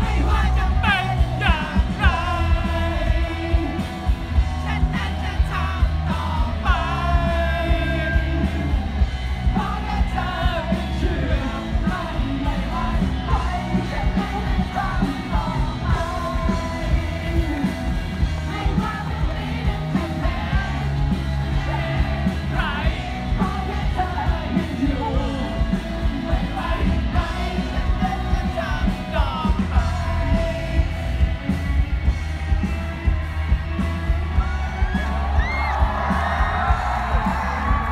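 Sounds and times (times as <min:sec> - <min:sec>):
man singing: 0:00.0 - 0:31.3
live rock band over loud pa: 0:00.0 - 0:37.9.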